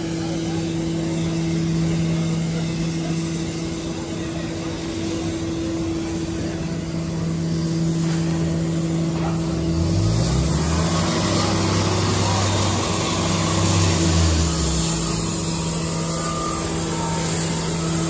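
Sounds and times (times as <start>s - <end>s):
road noise: 0.0s - 18.0s
vehicle engine drone: 0.0s - 18.0s.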